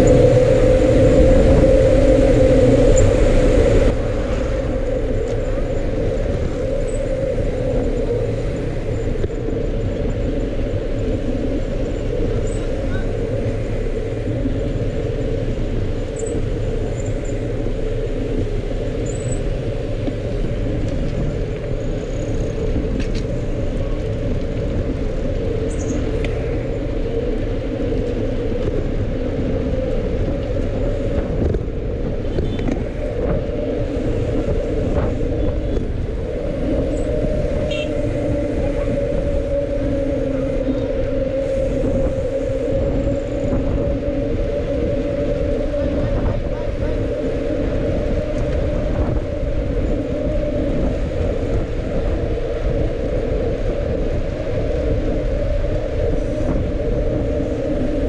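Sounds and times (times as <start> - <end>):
wind and road noise rumble: 0.0 - 58.0.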